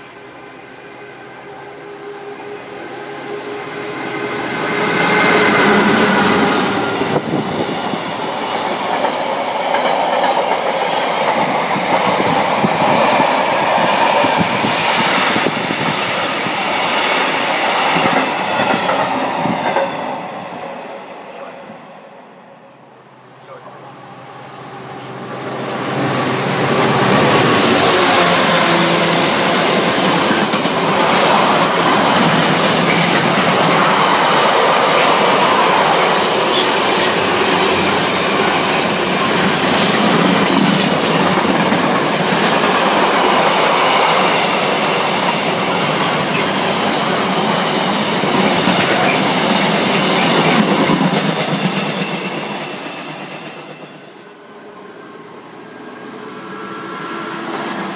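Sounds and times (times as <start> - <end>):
freight train passing: 0.0 - 57.9.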